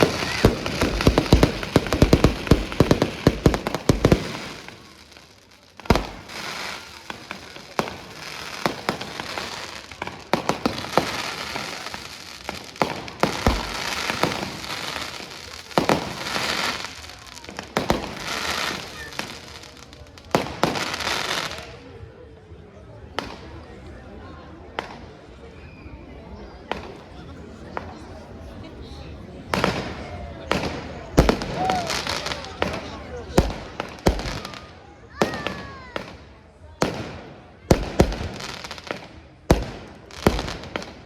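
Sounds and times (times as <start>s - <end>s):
fireworks bangs and crackling: 0.0s - 25.7s, 26.4s - 41.0s.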